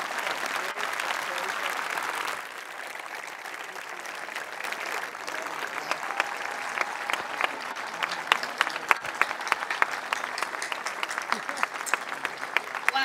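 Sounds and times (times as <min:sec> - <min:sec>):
crowd applauding: 0:00.0 - 0:13.0
sharp close hand claps: 0:00.0 - 0:13.0.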